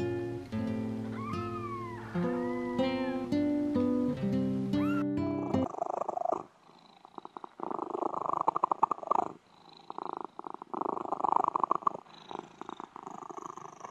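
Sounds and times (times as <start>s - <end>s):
cat purring: 0.0s - 13.9s.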